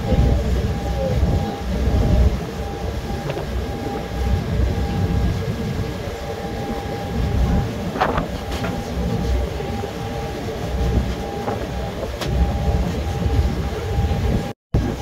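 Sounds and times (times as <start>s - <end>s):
faint steady whine: 0.0s - 15.0s
ferry engine running: 0.0s - 15.0s
wind buffeting microphone: 0.0s - 15.0s.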